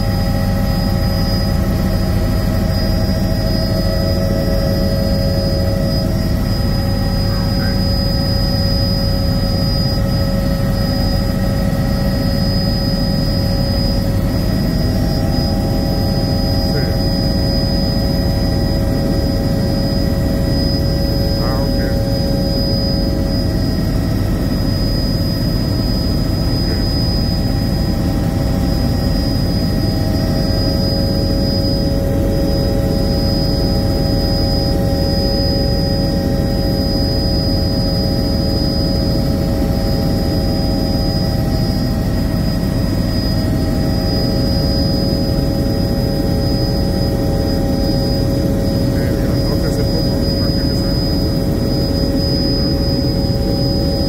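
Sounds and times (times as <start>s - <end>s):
helicopter engine and rotor rumble: 0.0s - 54.0s
high turbine whine: 0.0s - 54.0s.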